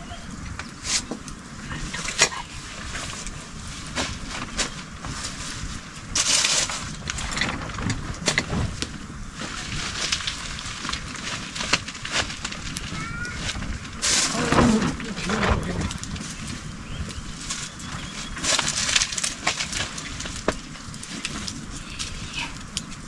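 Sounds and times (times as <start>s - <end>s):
wood fire crackling: 0.0s - 23.0s
rustling: 0.7s - 23.0s.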